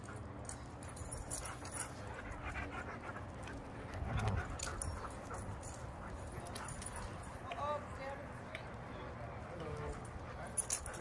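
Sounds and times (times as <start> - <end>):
dogs panting: 0.0 - 7.5, 8.9 - 11.0.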